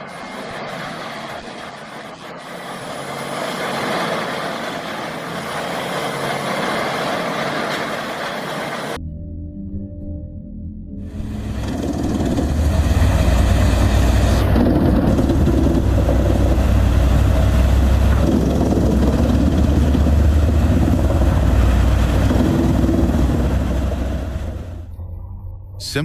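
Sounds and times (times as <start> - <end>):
heavy machinery engine rumbling: 0.0 - 9.0, 11.0 - 26.0.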